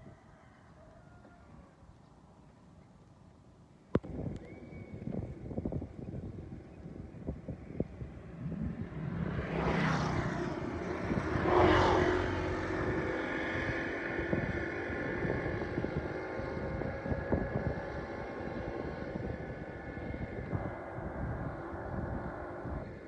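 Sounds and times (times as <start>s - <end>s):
engine running: 4.0s - 23.0s.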